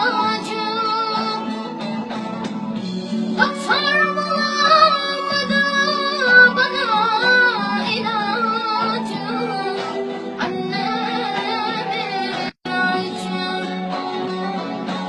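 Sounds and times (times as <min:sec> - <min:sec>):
woman singing: 0:00.0 - 0:02.2, 0:03.4 - 0:15.0
instrumental accompaniment: 0:00.0 - 0:15.0.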